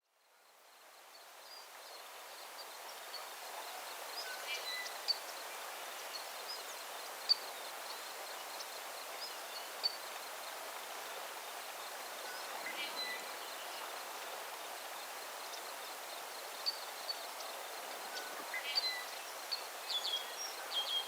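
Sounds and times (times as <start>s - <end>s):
steady rustling hiss: 0.1s - 21.0s.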